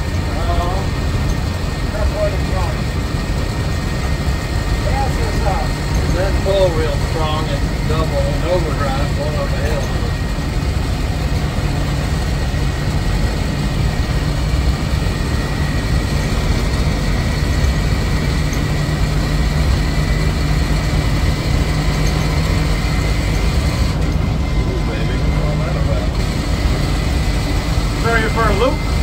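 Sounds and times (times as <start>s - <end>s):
engine and road noise drone: 0.0s - 29.0s
faint high whine: 0.0s - 29.0s.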